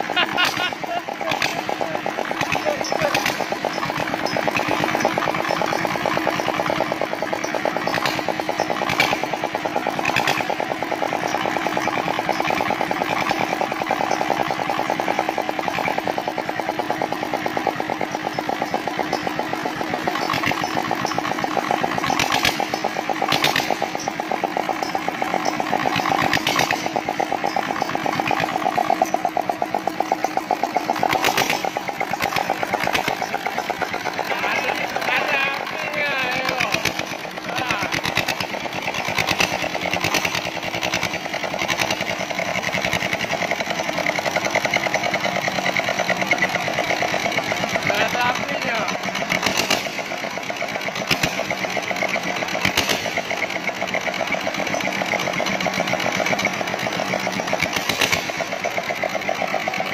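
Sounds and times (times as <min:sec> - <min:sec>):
diesel engine running: 0:00.0 - 0:59.9
sharp engine knocks: 0:00.1 - 0:59.9.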